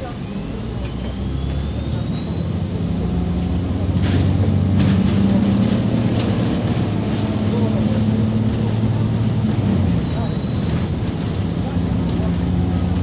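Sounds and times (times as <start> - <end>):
bus body rattles: 0.0 - 13.0
bus engine accelerating: 0.0 - 13.0.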